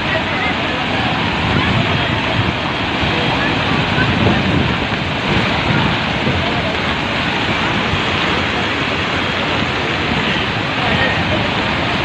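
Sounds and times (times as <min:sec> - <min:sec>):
floodwater rushing roar: 0:00.0 - 0:12.0.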